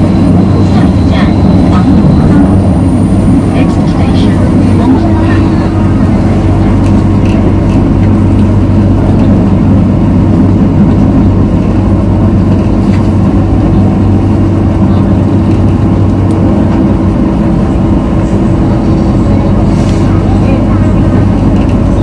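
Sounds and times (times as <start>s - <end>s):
train running noise inside car: 0.0s - 22.0s.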